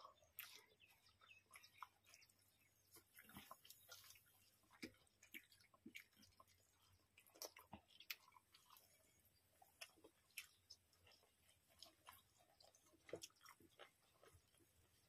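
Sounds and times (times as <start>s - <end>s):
chewing and lip smacks: 0.0s - 15.0s.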